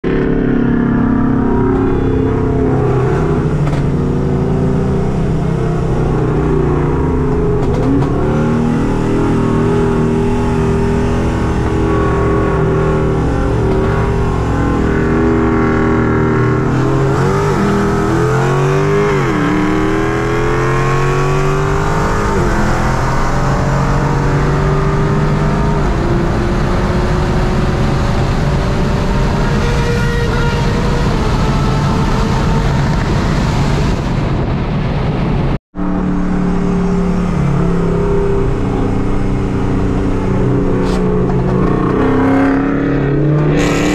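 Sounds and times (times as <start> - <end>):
car engine accelerating hard: 0.0 - 34.4, 35.7 - 43.9.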